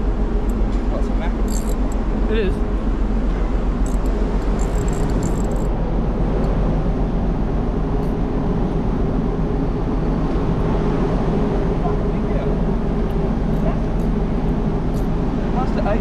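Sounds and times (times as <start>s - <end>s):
loud mechanical drone: 0.0s - 16.0s.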